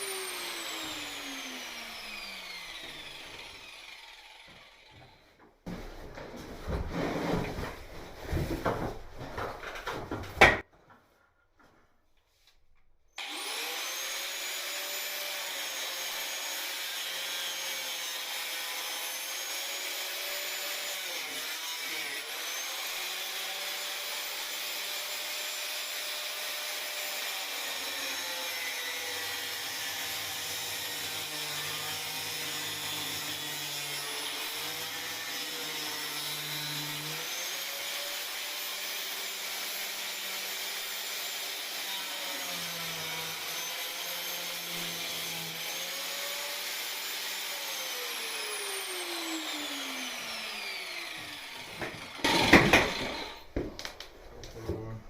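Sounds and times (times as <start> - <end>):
electric power saw cutting: 0.0 - 5.2, 13.2 - 54.0.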